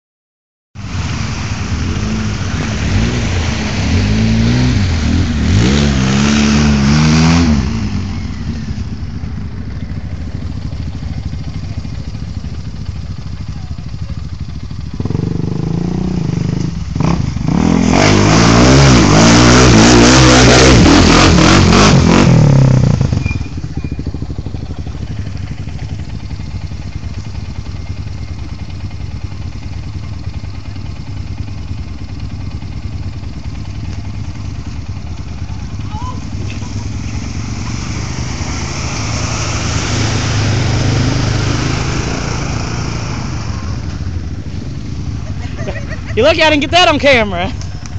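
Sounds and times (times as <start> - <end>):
atv engine revving: 1.4 - 47.9.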